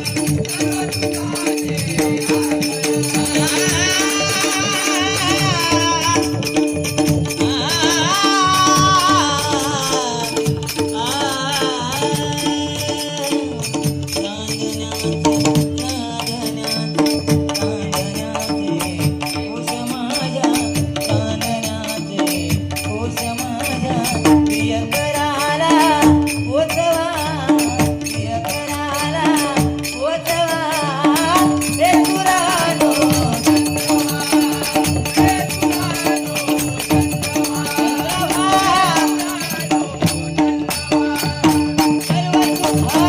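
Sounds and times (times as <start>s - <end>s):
man singing: 0.0s - 43.0s
rhythmic percussion: 0.0s - 43.0s.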